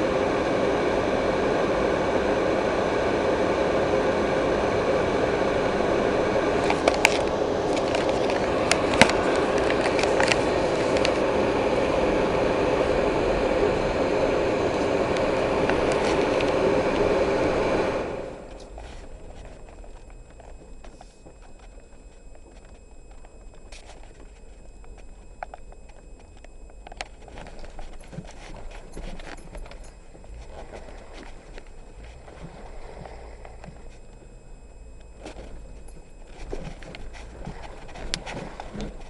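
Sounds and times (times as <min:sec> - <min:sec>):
mechanical drone: 0:00.0 - 0:39.0.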